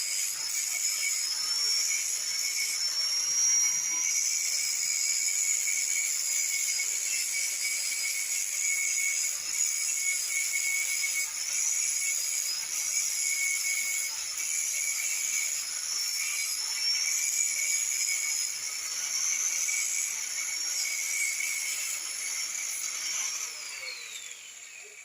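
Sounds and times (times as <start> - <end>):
electric grinder whining: 0.0 - 25.0.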